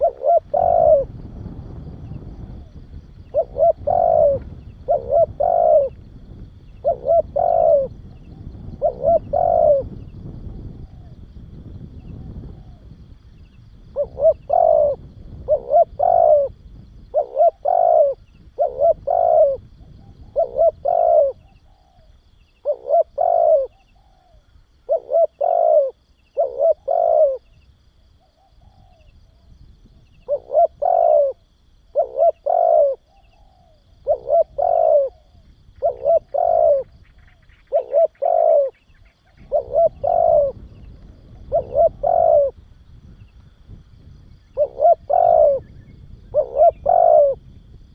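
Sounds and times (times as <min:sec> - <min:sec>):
dove cooing: 0:00.0 - 0:13.0, 0:13.8 - 0:42.6, 0:44.4 - 0:47.6.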